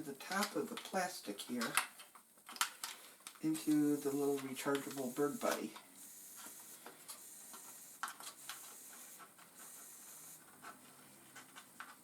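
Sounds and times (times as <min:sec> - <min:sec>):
high steady hiss: 0:00.0 - 0:12.0
plastic parts clicking and rustling: 0:00.1 - 0:12.0.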